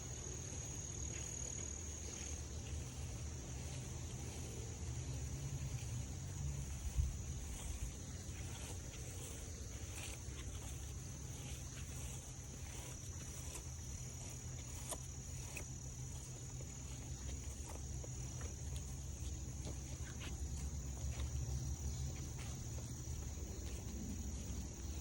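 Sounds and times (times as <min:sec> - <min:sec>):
footsteps on trail: 0:00.0 - 0:25.0
high-pitched insect chorus: 0:00.0 - 0:25.0.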